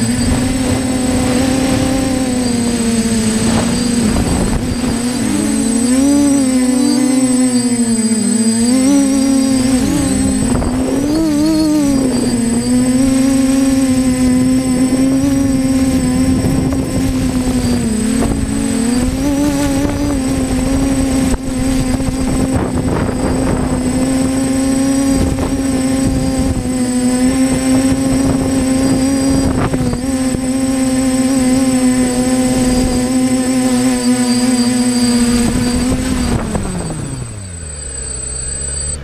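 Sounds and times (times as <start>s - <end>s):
quadcopter propellers buzzing: 0.0s - 39.0s.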